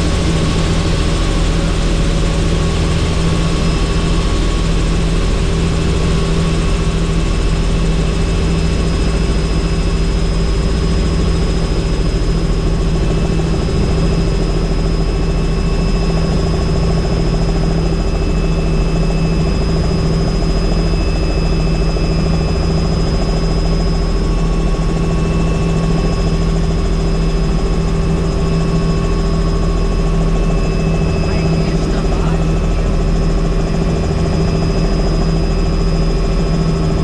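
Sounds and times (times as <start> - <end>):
helicopter rotor beat: 0.0 - 37.0
turbine whine: 0.0 - 37.0.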